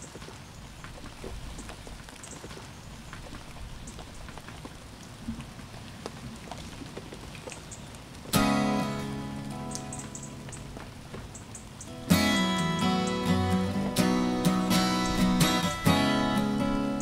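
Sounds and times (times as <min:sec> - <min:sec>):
drops ticking: 0:00.0 - 0:16.0
rain pattering: 0:00.0 - 0:17.0.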